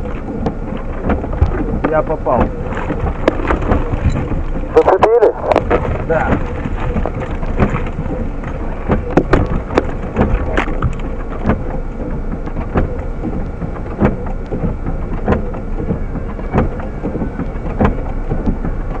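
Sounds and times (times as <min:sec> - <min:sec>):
car rumbling on the move: 0:00.0 - 0:19.0
sharp knocks and rattles: 0:00.0 - 0:19.0.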